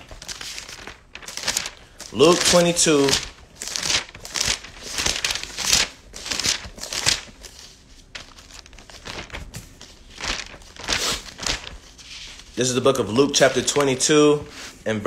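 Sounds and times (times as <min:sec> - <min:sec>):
book pages flipping: 0:00.0 - 0:14.6.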